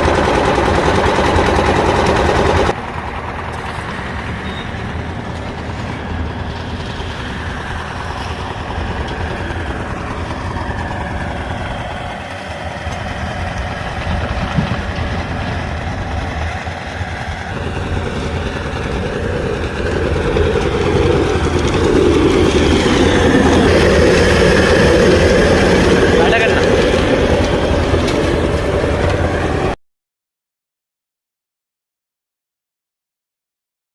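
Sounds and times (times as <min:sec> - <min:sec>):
heavy machinery engine drone: 0:00.0 - 0:29.8.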